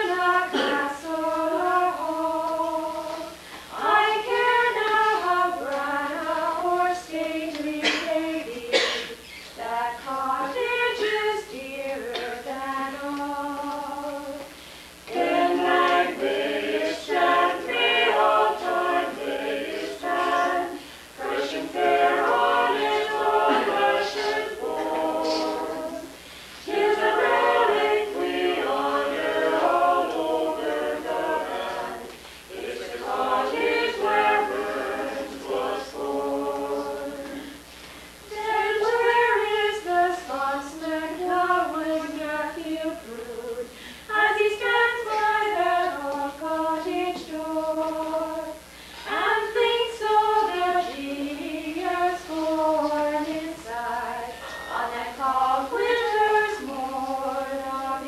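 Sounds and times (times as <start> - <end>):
group singing unaccompanied: 0.0 - 58.0.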